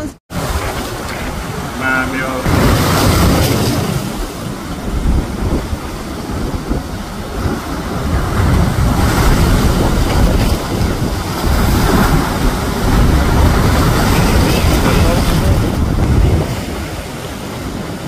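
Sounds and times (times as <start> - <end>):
surf breaking over rocks: 0.3 - 18.0
wind buffeting microphone: 2.4 - 18.0.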